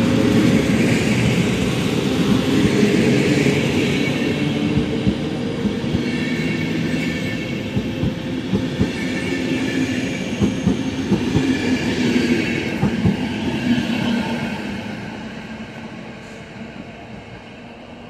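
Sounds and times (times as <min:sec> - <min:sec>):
train coaches rumbling past: 0:00.0 - 0:18.0.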